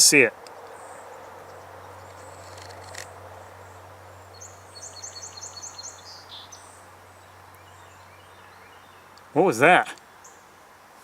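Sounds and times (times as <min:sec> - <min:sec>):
bird singing rising notes: 0:00.0 - 0:09.4.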